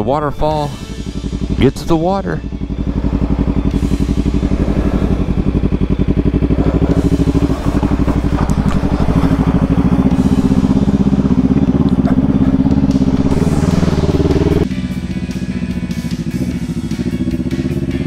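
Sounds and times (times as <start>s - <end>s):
motorcycle engine running slowly: 0.4s - 18.0s.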